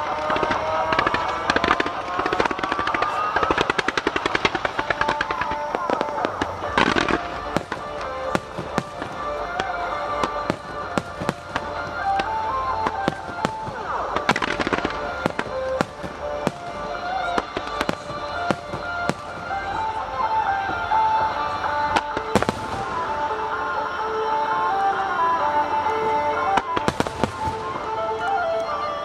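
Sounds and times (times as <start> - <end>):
fireworks bursting: 0.0 - 29.0
music: 0.0 - 29.0.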